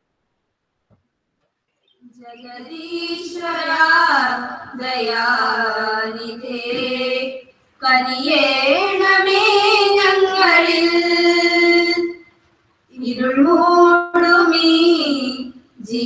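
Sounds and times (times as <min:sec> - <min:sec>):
girls singing a prayer song: 0:02.0 - 0:12.2, 0:13.0 - 0:16.0.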